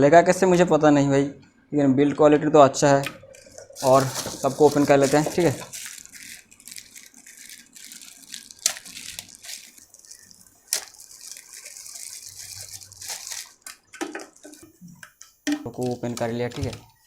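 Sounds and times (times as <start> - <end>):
packaging rustling and crackling: 3.1 - 16.8.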